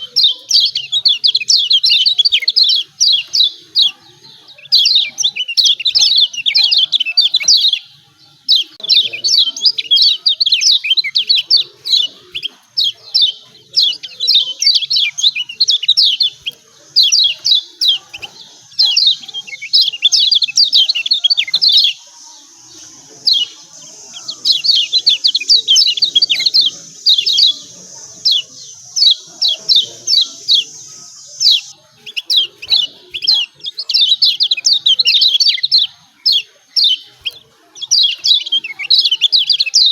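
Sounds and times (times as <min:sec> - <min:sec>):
bird chirping sharply: 0:00.0 - 0:39.9.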